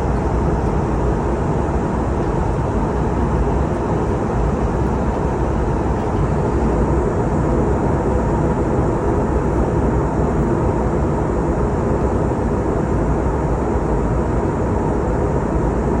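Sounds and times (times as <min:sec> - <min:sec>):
airliner engines and airflow rushing: 0:00.0 - 0:16.0
faint steady hum: 0:00.0 - 0:16.0.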